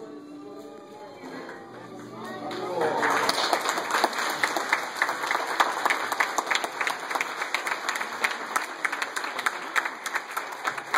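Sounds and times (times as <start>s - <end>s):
audience applauding: 2.0s - 10.9s.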